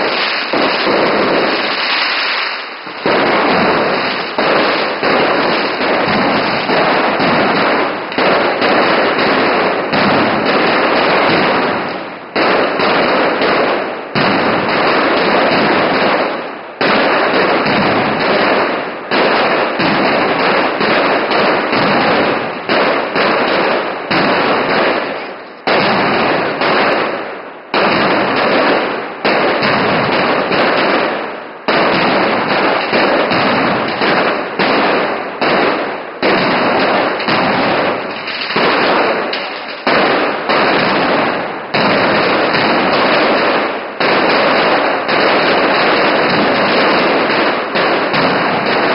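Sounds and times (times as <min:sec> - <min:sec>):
firecrackers barrage: 0:00.0 - 0:48.9.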